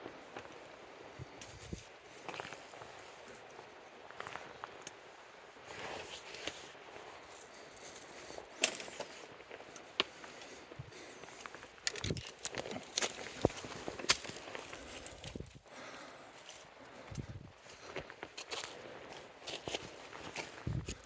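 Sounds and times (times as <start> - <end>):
footsteps on rocky trail: 1.4 - 4.8, 7.3 - 21.0.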